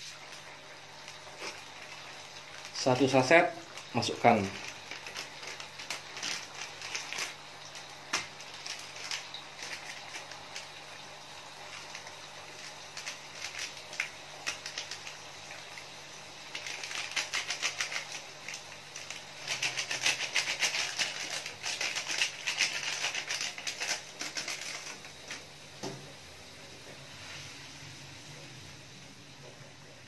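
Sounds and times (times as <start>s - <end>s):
plastic sachet crinkling: 0.2s - 25.5s.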